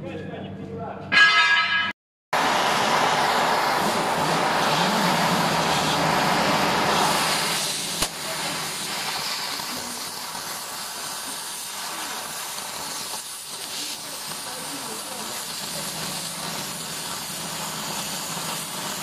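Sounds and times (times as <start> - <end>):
cutting torch hissing: 2.4 - 19.0.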